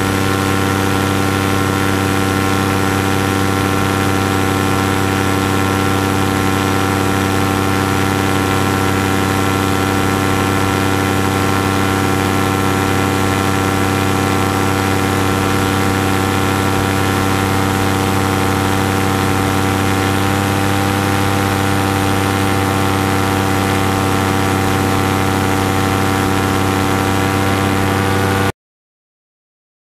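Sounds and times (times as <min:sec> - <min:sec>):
paramotor engine and propeller: 0:00.0 - 0:28.5.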